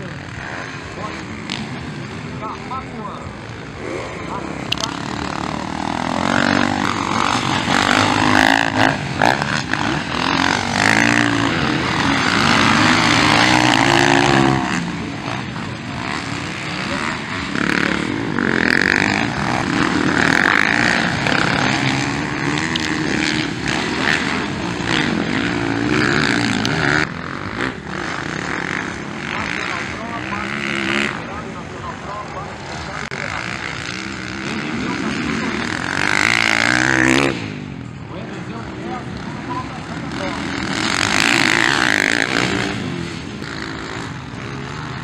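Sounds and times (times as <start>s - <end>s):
motocross bike engines revving: 0.0s - 45.0s.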